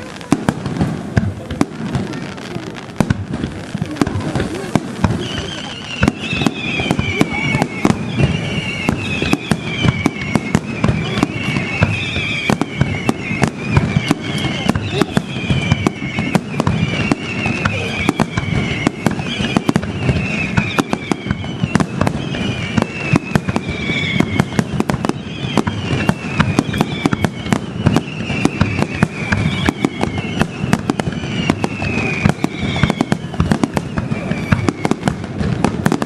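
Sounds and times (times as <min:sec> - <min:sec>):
fireworks bangs and crackles: 0:00.0 - 0:36.0
whistling firework shells: 0:00.0 - 0:36.0.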